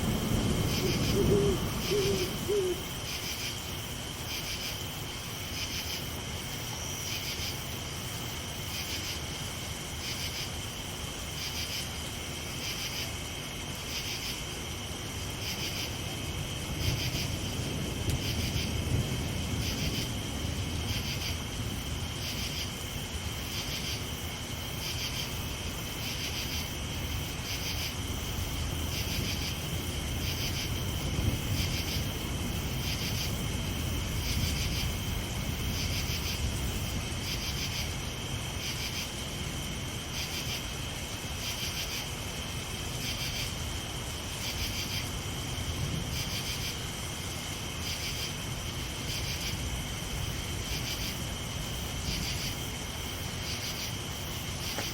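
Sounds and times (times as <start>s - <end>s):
crickets chirping: 0.0s - 54.9s
rain hiss and rumble: 0.0s - 54.9s.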